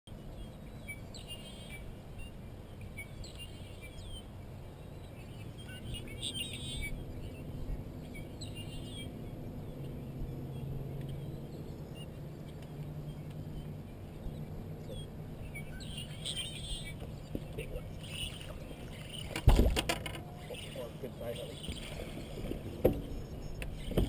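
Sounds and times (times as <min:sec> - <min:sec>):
low hum: 0:00.1 - 0:24.0
songbirds trilling: 0:00.1 - 0:24.0.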